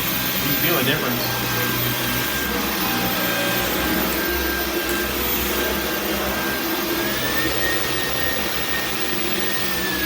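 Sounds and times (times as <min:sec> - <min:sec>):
stick vacuum running: 0:00.0 - 0:10.0.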